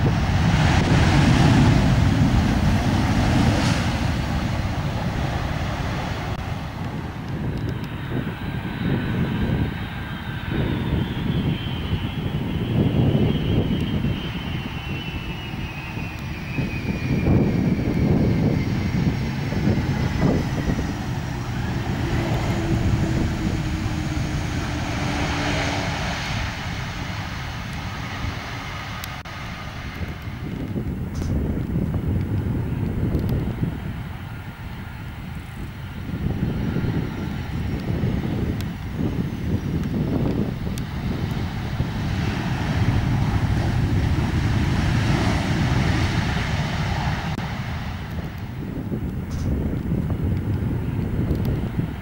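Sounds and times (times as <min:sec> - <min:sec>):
jet airliner roar at takeoff: 0:00.0 - 0:52.0.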